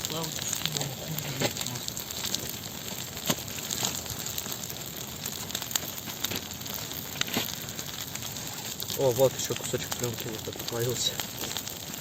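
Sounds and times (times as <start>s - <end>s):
bonfire crackling and hissing: 0.0s - 12.0s.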